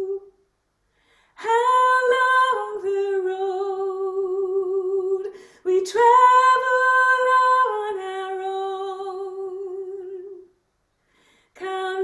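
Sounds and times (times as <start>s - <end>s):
woman singing unaccompanied: 0.0s - 0.3s, 1.4s - 10.5s, 11.6s - 12.0s.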